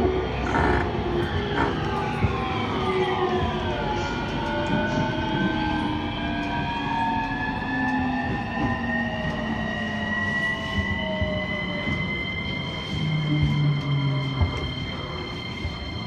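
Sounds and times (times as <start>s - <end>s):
train inverter whine: 0.0s - 16.0s
train rumble: 0.0s - 16.0s.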